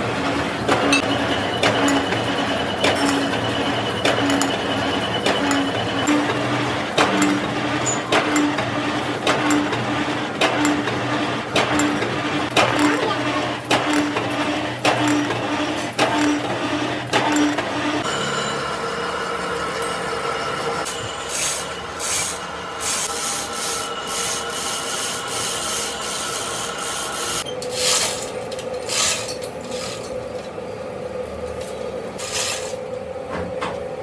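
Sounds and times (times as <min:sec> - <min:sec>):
lathe whining: 0:00.0 - 0:27.5.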